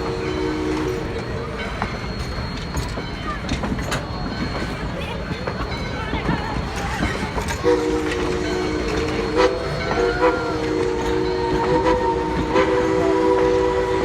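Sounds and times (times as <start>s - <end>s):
faint clicking train noise: 0.0s - 14.0s
steam locomotive chime whistle: 0.0s - 14.0s.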